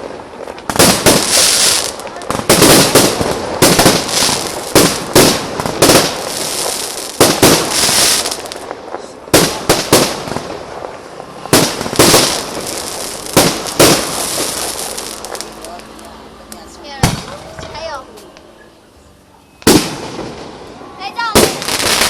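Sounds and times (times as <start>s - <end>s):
fireworks bangs: 0.0s - 18.5s, 19.6s - 22.0s
fireworks crackling: 0.0s - 22.0s.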